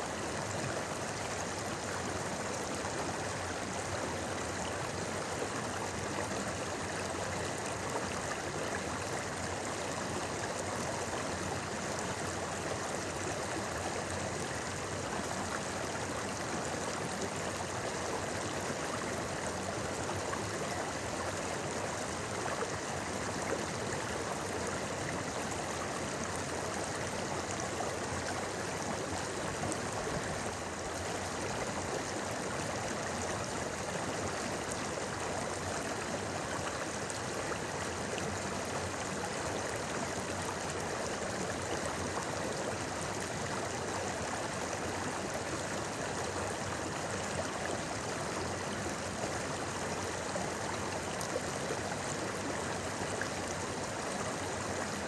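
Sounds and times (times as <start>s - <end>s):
river babbling over rocks: 0.3s - 55.0s.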